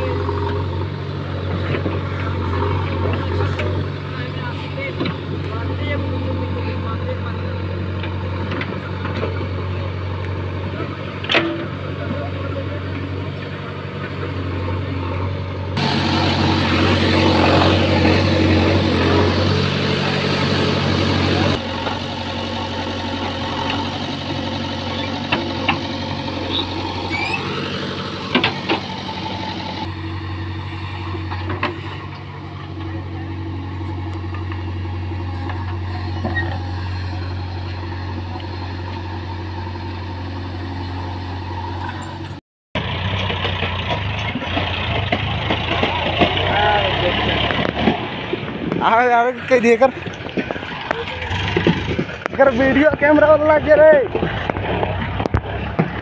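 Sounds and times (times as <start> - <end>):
diesel engine running under work: 0.0 - 56.0
tractor diesel engine running: 0.0 - 56.0.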